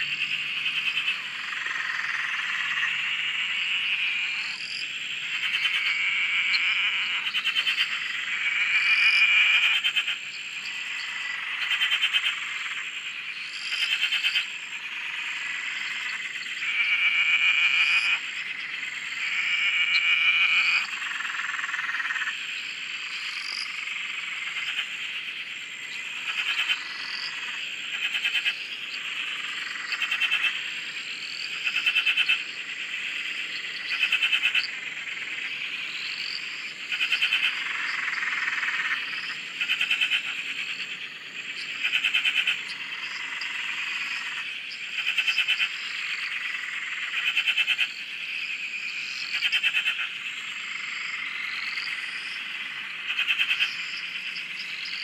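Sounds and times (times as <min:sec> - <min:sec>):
chorus of frogs calling: 0:00.0 - 0:55.0
tree frog pulsed trilling: 0:00.0 - 0:55.0.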